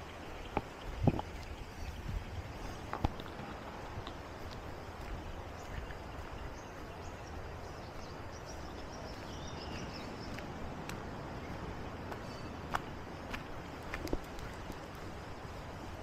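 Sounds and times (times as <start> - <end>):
steady outdoor background noise: 0.0 - 16.0.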